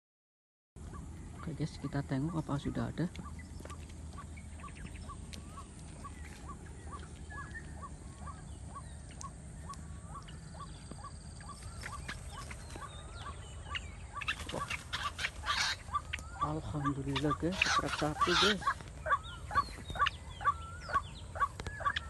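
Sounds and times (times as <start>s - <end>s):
waterhen calling: 0.8s - 22.0s.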